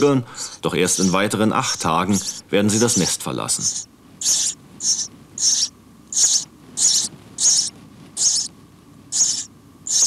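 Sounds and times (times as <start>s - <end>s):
nestlings begging calls: 0.0s - 8.5s, 9.1s - 10.0s.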